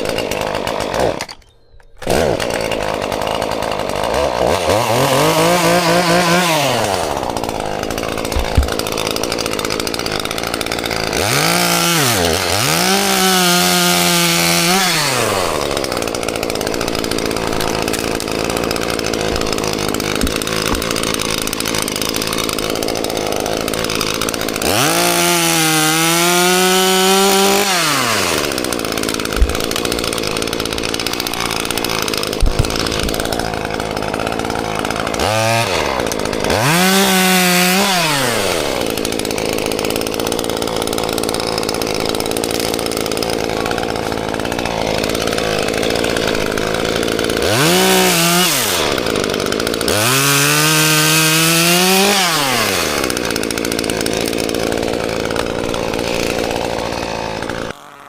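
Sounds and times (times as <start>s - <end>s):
chainsaw cutting branches: 0.0s - 58.0s.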